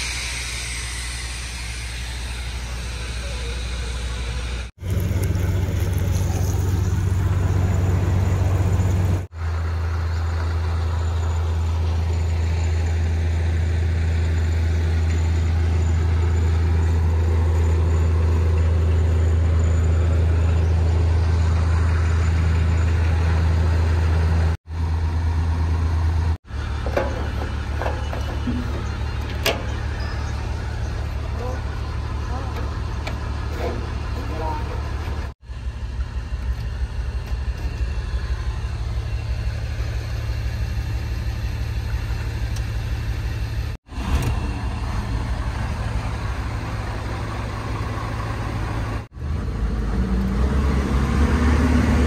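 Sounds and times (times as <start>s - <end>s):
diesel engine idling: 0.0s - 50.5s.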